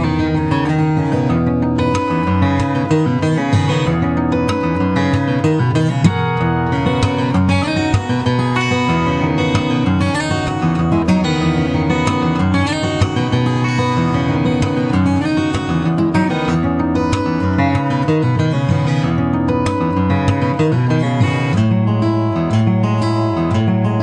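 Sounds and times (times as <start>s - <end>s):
guitar background music: 0.0s - 24.0s.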